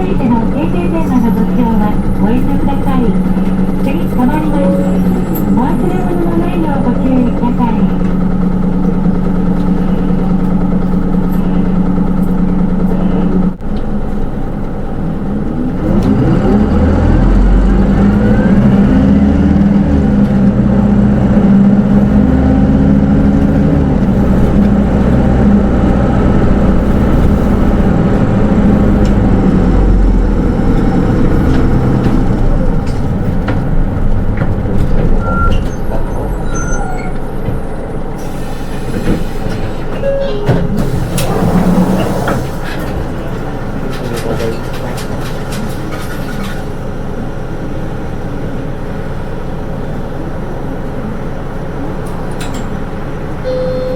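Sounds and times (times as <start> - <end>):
diesel bus engine humming: 0.0 - 53.9.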